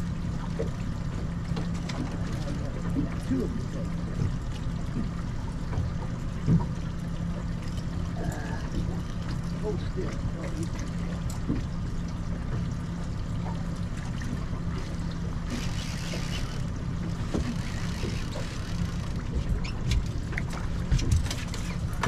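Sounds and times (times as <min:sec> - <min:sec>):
boat motor humming: 0:00.0 - 0:22.0
water noise: 0:00.0 - 0:22.0.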